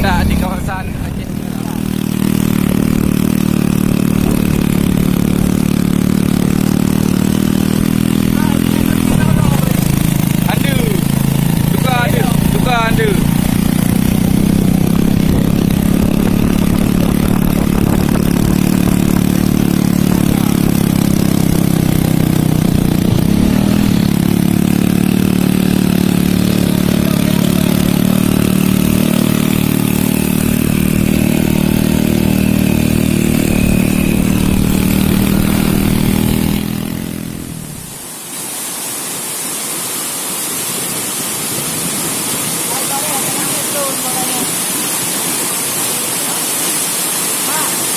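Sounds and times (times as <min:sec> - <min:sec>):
motorcycle engine running: 0:00.0 - 0:38.1, 0:42.6 - 0:47.8
rushing water hiss: 0:00.0 - 0:47.9.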